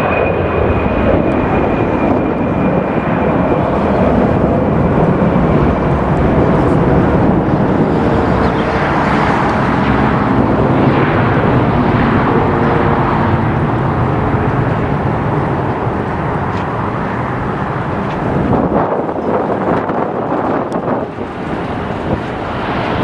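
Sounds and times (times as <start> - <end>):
jet airliner passing: 0.0 - 23.0.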